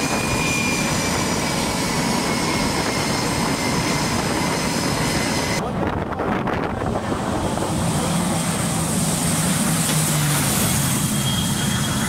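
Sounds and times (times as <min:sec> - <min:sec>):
high turbine whine: 0:00.0 - 0:12.0
propeller drone: 0:00.0 - 0:12.0.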